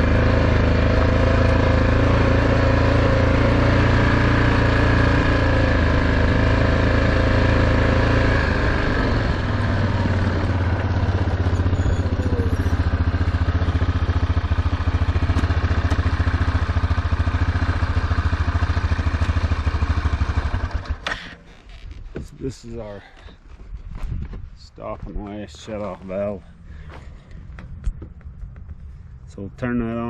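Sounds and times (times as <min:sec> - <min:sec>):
vehicle engine idling: 0:00.0 - 0:23.5, 0:24.8 - 0:30.0.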